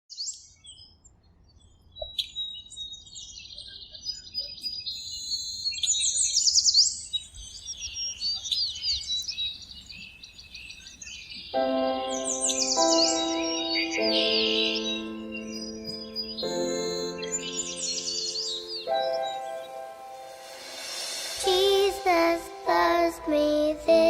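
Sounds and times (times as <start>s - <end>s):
birds chirping and trilling: 0.1s - 24.0s.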